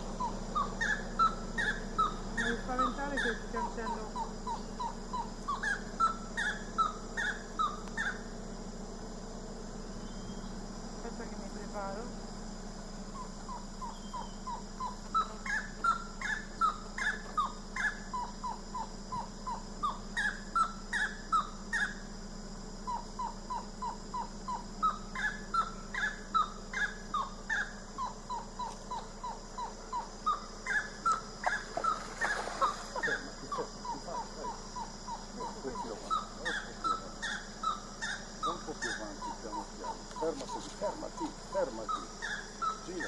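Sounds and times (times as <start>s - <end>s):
wood-rail calling: 0.0s - 8.4s, 13.1s - 22.2s, 22.8s - 43.0s.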